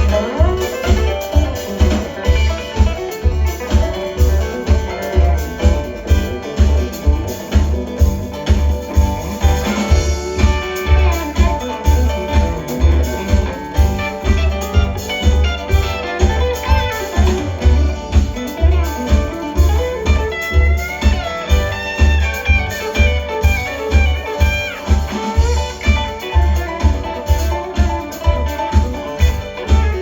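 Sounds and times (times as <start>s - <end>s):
drum and bass beat: 0.0s - 30.0s
guitar with bending notes: 0.0s - 30.0s.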